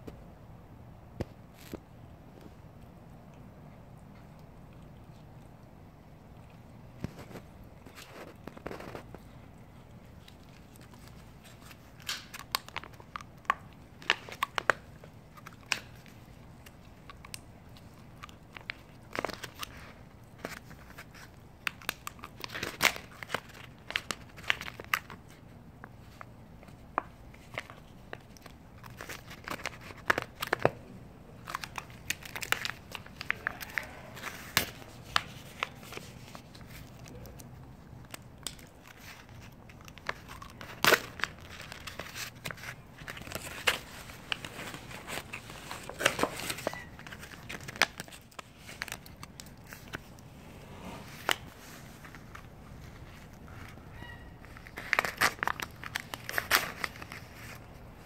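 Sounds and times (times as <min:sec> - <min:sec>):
cat crunching food: 0:01.4 - 0:58.0.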